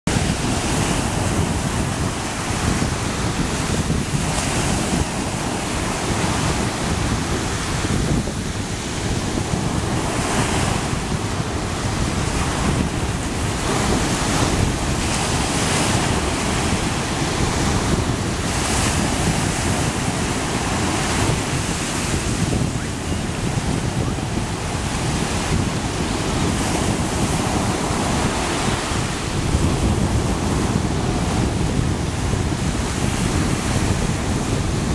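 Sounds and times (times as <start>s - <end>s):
small waves breaking on sand: 0.1s - 34.9s
wind rumbling on microphone: 0.1s - 34.9s.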